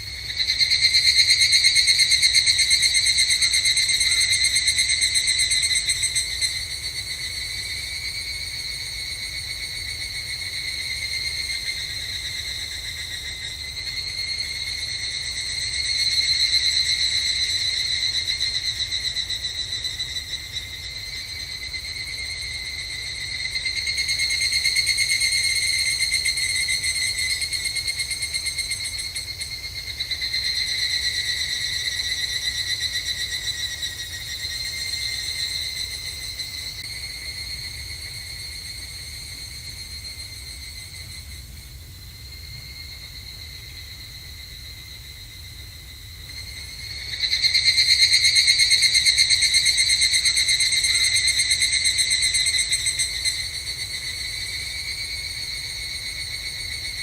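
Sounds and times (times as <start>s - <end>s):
cicadas pulsing trill: 0.0s - 57.0s.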